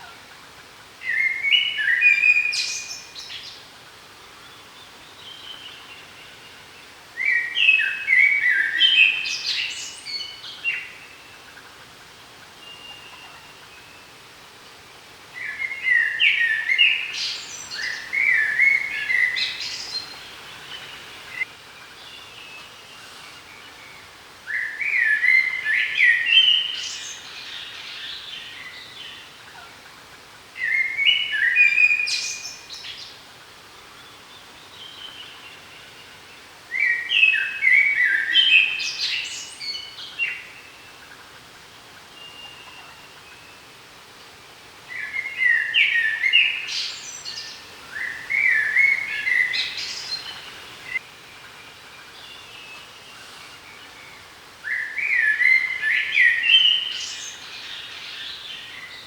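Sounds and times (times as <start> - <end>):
faint outdoor background noise: 0.0 - 59.0
songbird singing: 0.9 - 11.8, 12.4 - 29.9, 30.5 - 41.4, 42.0 - 59.0.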